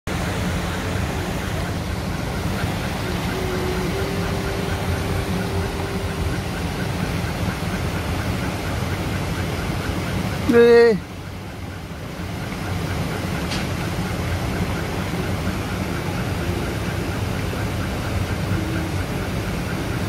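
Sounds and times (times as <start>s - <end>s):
car engine humming: 0.1s - 20.0s
floodwater rushing across road: 0.1s - 20.0s.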